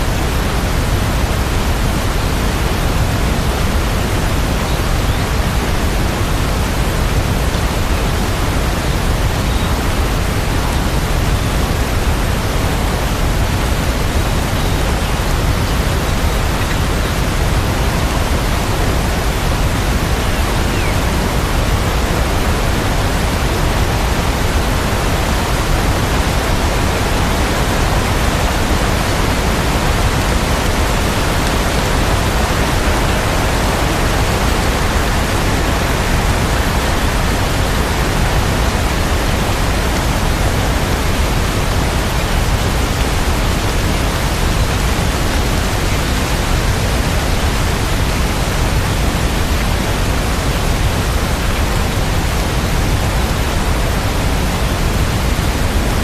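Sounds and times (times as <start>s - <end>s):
dense rain hiss: 0.0s - 56.0s.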